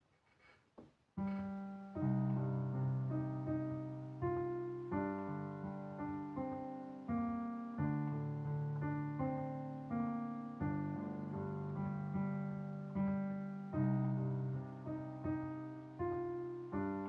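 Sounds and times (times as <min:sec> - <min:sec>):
piano melody over low chords: 0:01.2 - 0:17.0.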